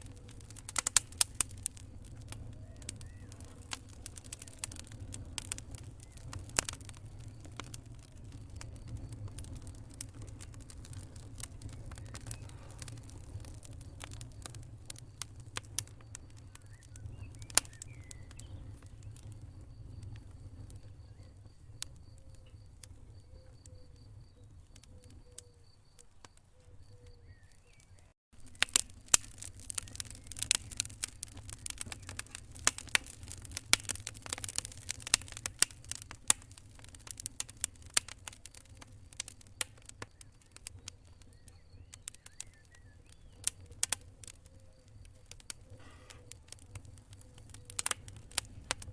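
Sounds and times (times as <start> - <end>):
low rumble of flames: 0.0 - 48.9
wood fire crackling: 0.0 - 48.9.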